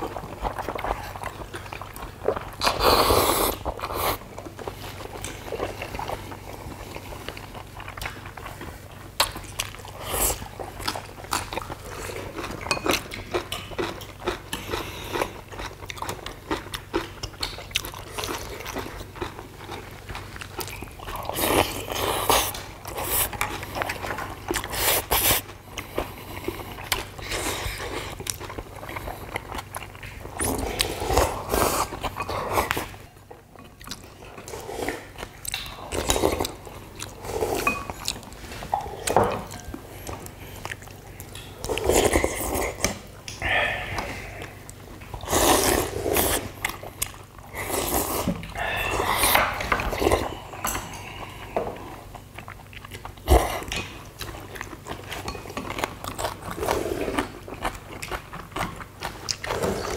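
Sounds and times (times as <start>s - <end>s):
people chewing and eating: 0.0s - 59.9s.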